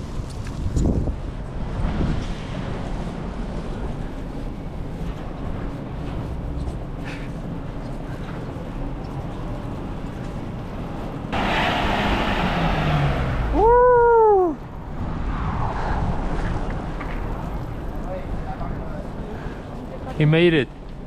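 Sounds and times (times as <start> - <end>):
strong wind buffeting microphone: 0.0 - 11.1, 12.5 - 19.8.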